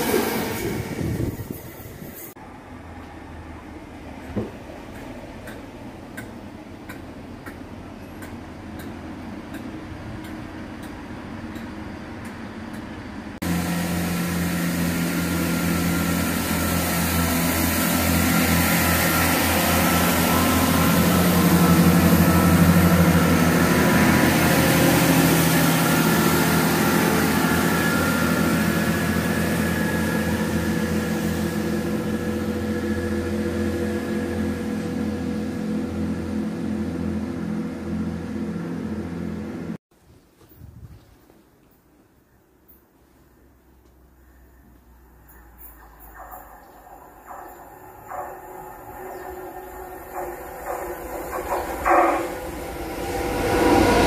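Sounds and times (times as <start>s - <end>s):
diesel train engines droning: 0.0s - 39.8s, 43.9s - 54.0s.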